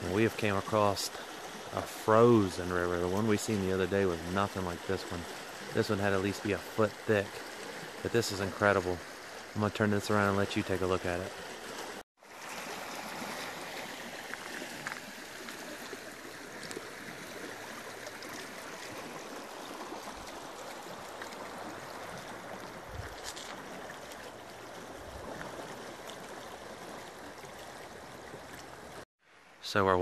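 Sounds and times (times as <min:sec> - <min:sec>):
river water rushing: 0:00.0 - 0:29.6.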